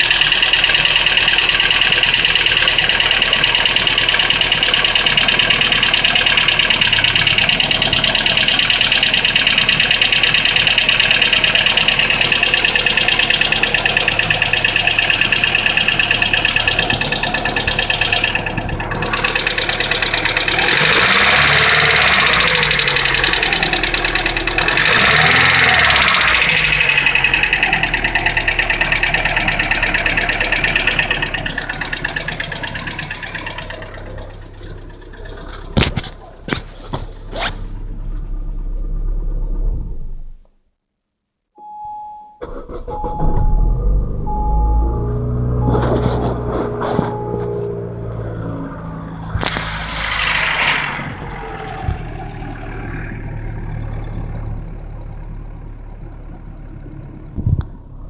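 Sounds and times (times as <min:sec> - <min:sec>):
engine idling with knock: 0:00.0 - 0:40.5, 0:43.6 - 0:58.0.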